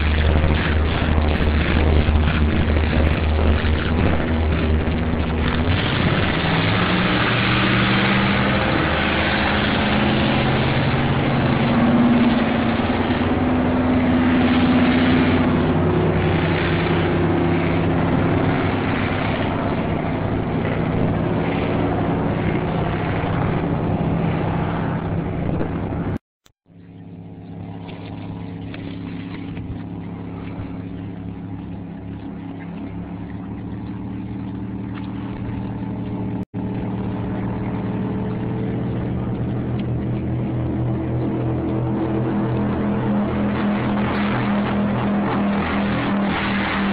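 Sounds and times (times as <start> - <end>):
boat engine drone: 0.0 - 46.9
speedboat engines running: 0.0 - 46.9
water rushing: 0.0 - 46.9.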